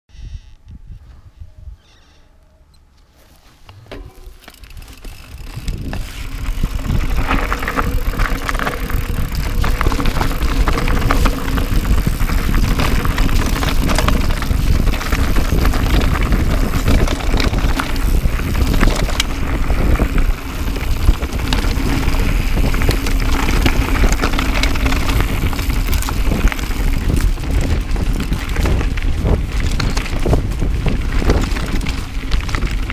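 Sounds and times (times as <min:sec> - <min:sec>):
wind rushing on microphone: 0:00.1 - 0:01.9, 0:04.7 - 0:32.9
tyres crunching over stones: 0:03.2 - 0:32.9
bike knocks and rattles: 0:03.6 - 0:32.9.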